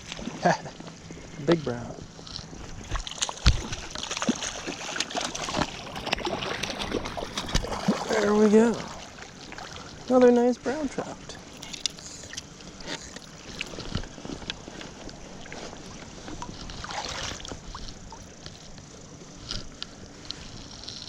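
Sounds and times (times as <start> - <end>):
river current washing: 0.0 - 21.0
water sloshing around wader: 0.0 - 21.0.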